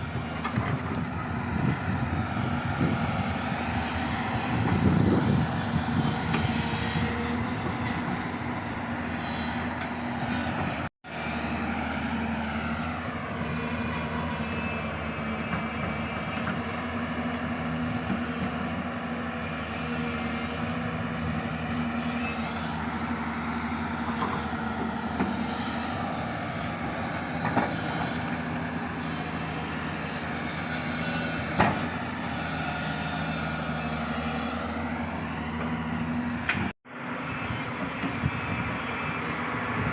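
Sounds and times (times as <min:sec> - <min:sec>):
excavator diesel engines running: 0:00.0 - 0:39.9.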